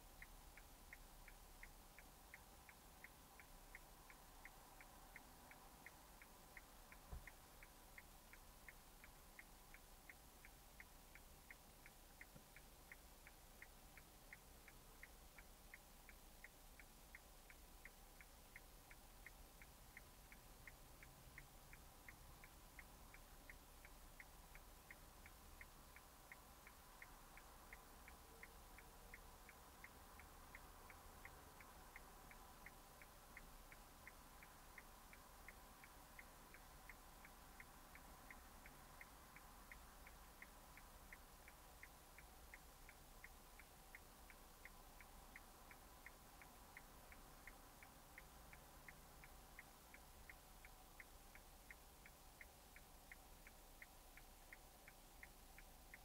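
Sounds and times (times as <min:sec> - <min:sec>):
turn signal relay ticking: 0:00.0 - 0:56.0.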